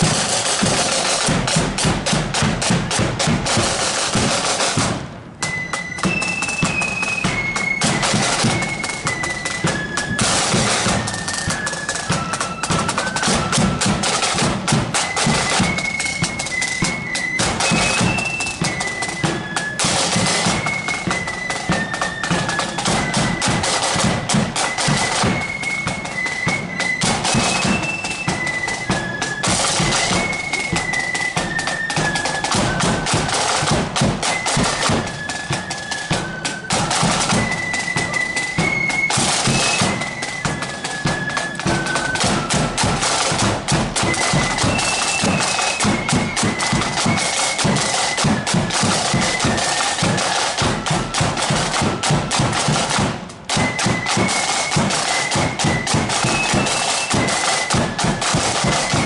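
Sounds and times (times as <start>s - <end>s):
flutes playing melody: 0.0s - 59.0s
snare drum roll: 0.0s - 59.0s.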